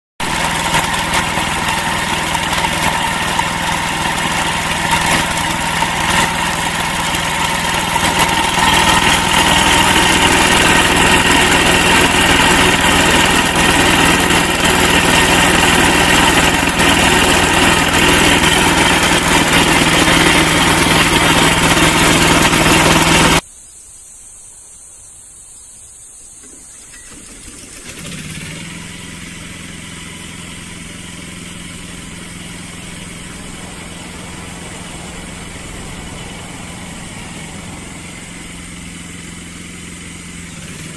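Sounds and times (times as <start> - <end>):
lawn mower engine running: 0.2 - 23.4, 26.4 - 40.9.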